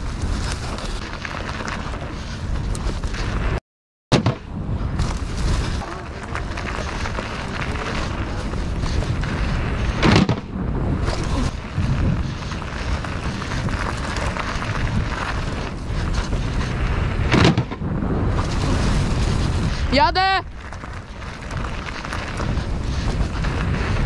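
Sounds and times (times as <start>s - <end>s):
bike tyres rumbling: 0.0s - 3.6s, 4.2s - 24.0s
wind buffeting microphone: 4.3s - 24.0s.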